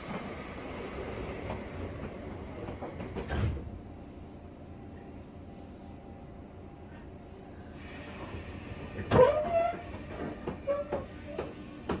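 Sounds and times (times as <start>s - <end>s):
steady train noise: 0.0s - 12.0s.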